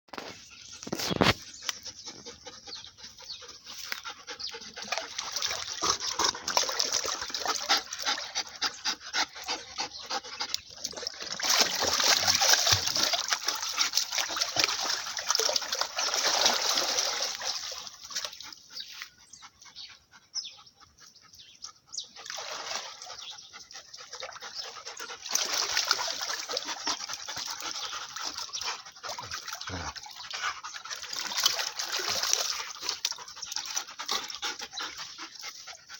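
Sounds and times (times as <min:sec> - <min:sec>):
dog sounds: 0:00.1 - 0:35.9
dogs splashing in water: 0:03.1 - 0:19.1, 0:22.2 - 0:35.9.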